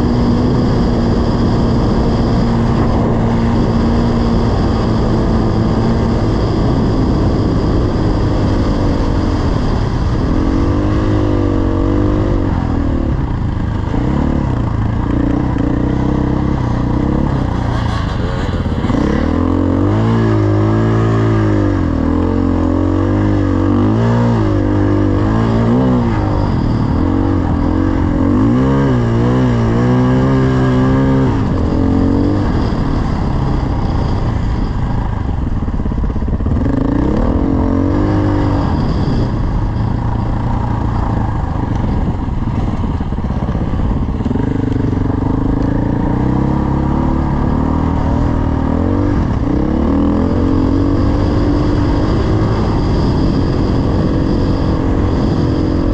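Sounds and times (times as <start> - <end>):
dirt bike engine revving: 0.0 - 34.2, 36.3 - 55.9
wind and road noise: 0.0 - 55.9.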